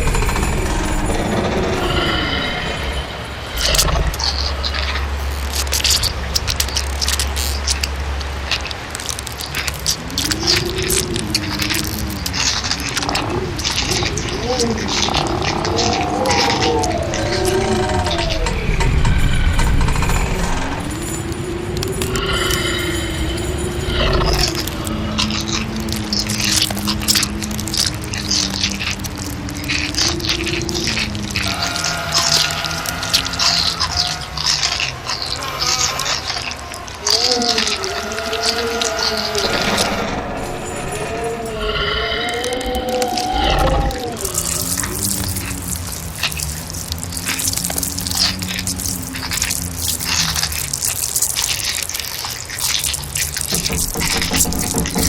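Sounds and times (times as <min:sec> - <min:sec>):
low sustained drone: 0:00.0 - 0:55.0
skittering scratching clicks: 0:00.0 - 0:55.0
water dripping and splashing: 0:00.0 - 0:55.0.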